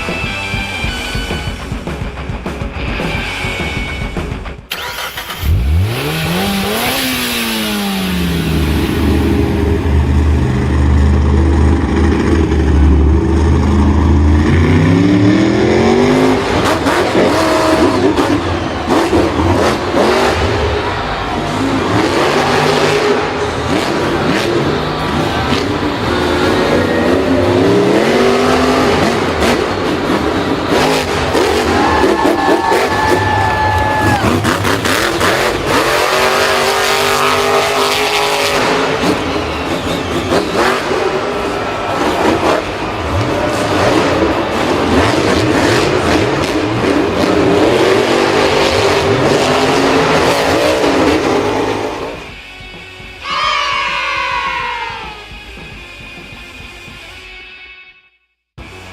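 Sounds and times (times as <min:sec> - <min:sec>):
vehicle engine revving: 0:00.0 - 0:53.2.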